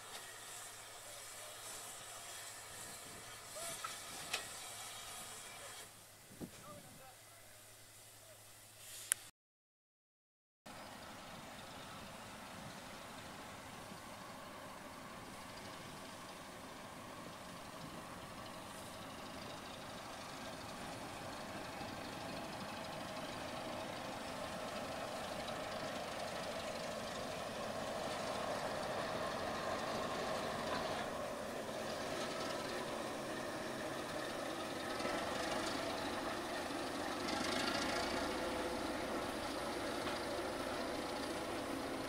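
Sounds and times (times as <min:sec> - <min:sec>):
diesel locomotive engine running: 0:00.0 - 0:06.8, 0:10.7 - 0:42.0.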